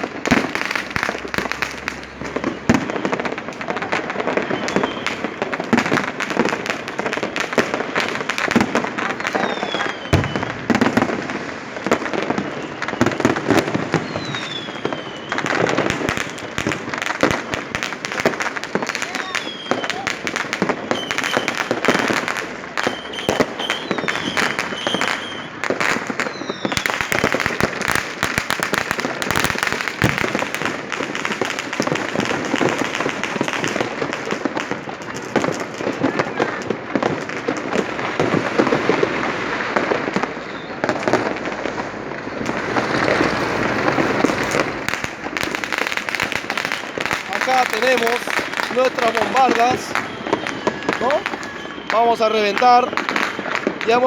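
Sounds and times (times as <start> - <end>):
fireworks bangs and crackling: 0.0 - 54.0
whistling rockets: 0.0 - 54.0.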